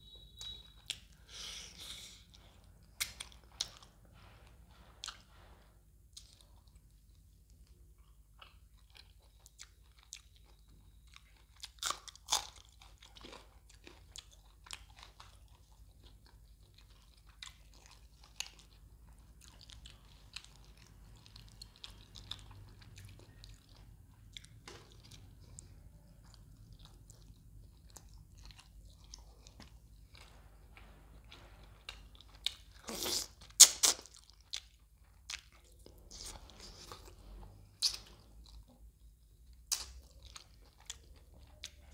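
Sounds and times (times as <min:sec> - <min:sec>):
wet chewing with crunchy bites: 0:02.3 - 0:41.9.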